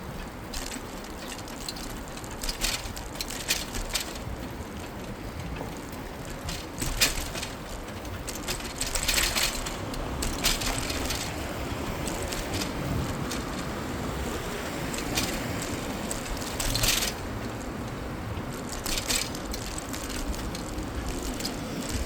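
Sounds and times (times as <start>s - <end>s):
bicycle tyre road rumble: 0.0s - 22.0s
bike clicks and rattles: 0.0s - 22.0s.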